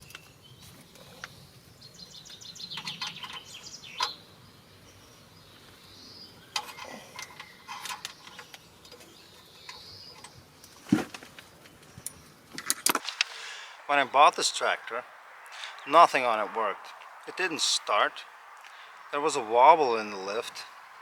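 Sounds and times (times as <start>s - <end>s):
birds chirping: 0.0s - 21.0s
faint outdoor background: 0.0s - 21.0s.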